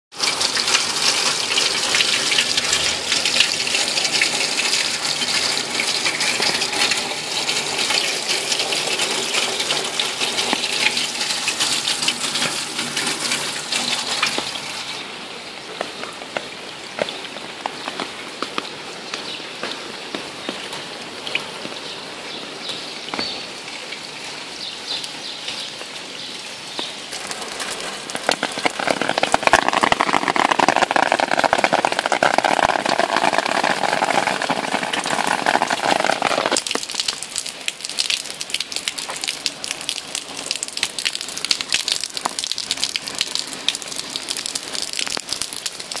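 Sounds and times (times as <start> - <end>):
rain pattering on asphalt: 0.1 - 46.0
water gushing from downspout: 0.1 - 46.0.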